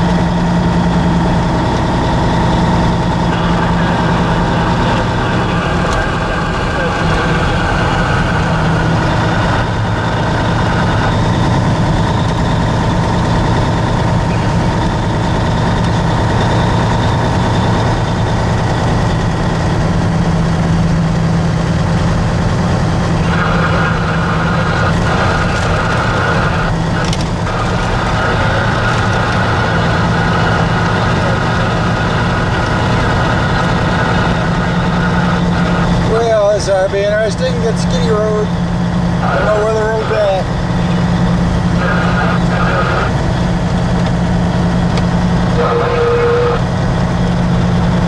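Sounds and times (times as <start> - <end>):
high whine: 0.0 - 48.0
truck engine running: 0.0 - 48.0.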